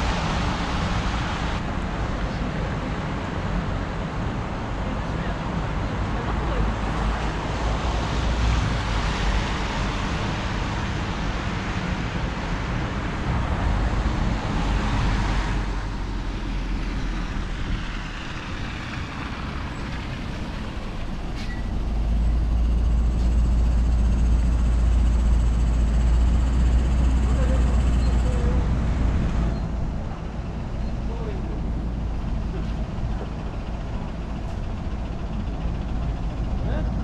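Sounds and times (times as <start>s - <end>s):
bus engine rumble: 0.0s - 37.0s
traffic on a wet road: 0.0s - 37.0s.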